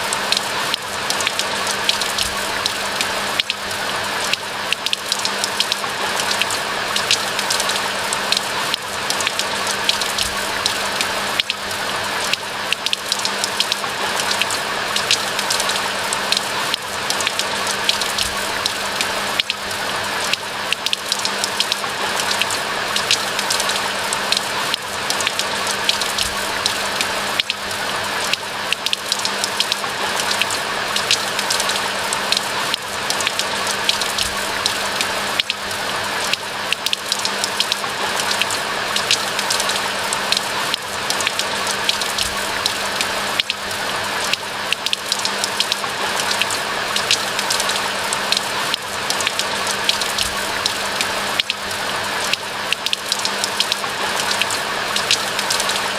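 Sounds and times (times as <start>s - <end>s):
raindrops ticking: 0.0s - 55.9s.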